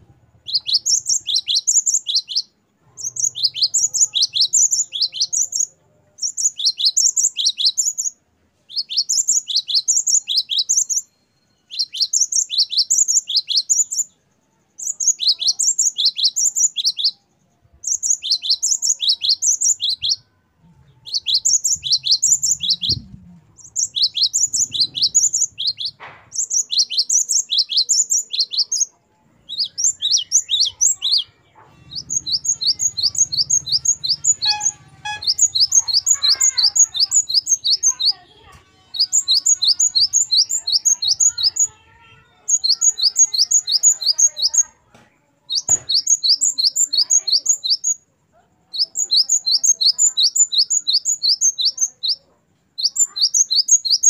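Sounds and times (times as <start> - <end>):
great tit singing: 0.0 - 54.0.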